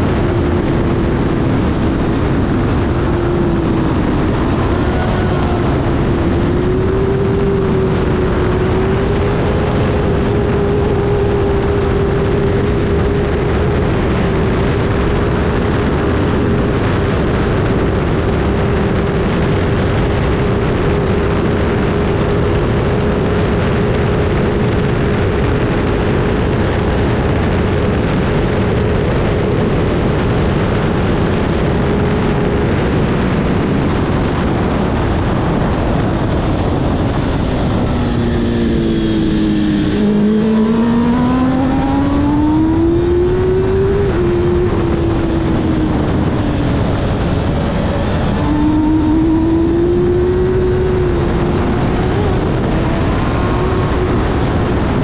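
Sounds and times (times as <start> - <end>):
motorcycle engine at high revs: 0.0 - 55.0
wind rush: 0.0 - 55.0.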